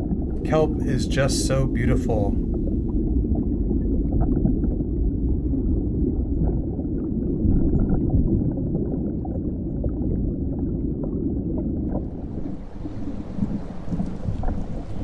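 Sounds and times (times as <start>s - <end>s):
underwater rumble of moving water: 0.0s - 15.0s.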